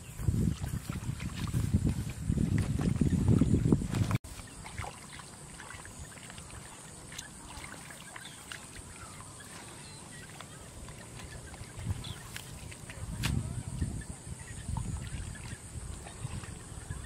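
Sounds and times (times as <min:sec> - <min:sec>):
squelches wading through mud: 0:00.0 - 0:17.0
hands sloshing in muddy water: 0:00.2 - 0:17.0.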